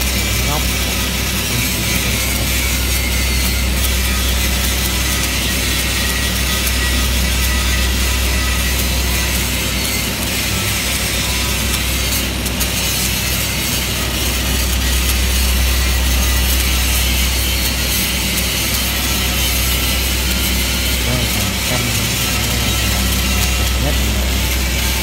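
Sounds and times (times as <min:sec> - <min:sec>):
arc welding crackling sizzle: 0:00.0 - 0:25.0
steady low hum: 0:00.0 - 0:25.0.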